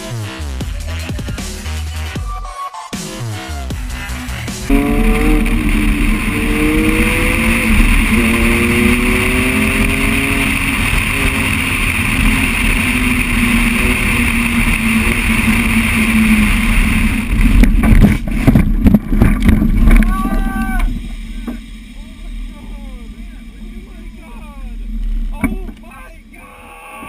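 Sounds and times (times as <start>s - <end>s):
wind and road rush: 3.8s - 26.3s
vehicle engine accelerating: 3.8s - 26.5s.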